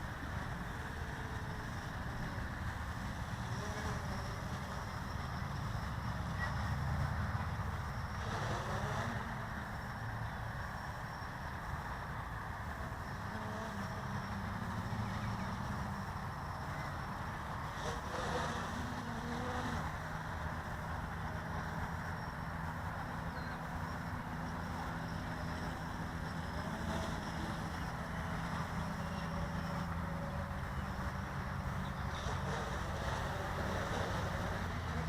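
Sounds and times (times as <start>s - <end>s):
quadcopter motors buzzing: 0.0s - 35.0s.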